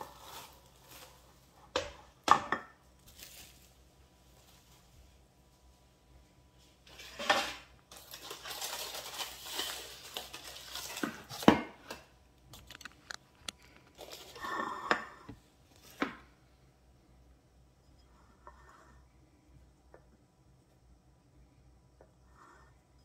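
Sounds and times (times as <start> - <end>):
rustling and scraping on counter: 0.0 - 16.4, 17.8 - 19.3, 22.0 - 23.0.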